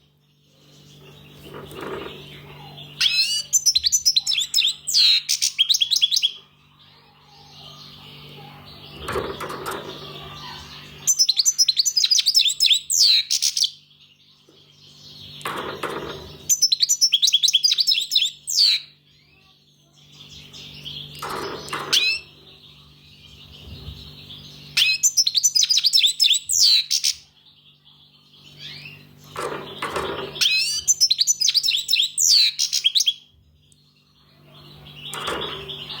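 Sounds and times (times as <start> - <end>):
finch twittering song: 0.0 - 36.0
quiet bird chatter: 0.0 - 36.0.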